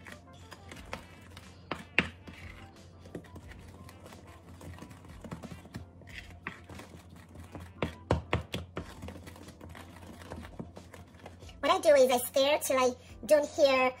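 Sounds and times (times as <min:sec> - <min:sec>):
wooden spoon stirring in glass bowl: 0:00.0 - 0:11.6.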